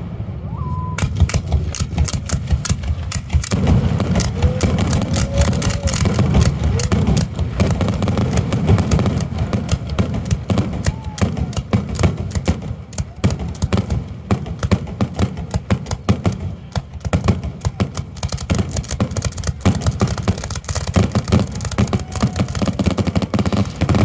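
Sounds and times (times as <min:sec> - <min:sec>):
continuous low rumble: 0:00.0 - 0:24.0
fireworks shell bursts and crackles: 0:01.0 - 0:24.0.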